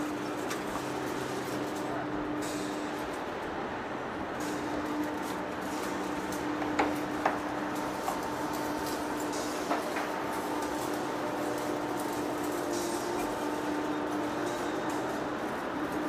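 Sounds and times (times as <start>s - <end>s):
heavy machinery humming: 0.0s - 16.0s.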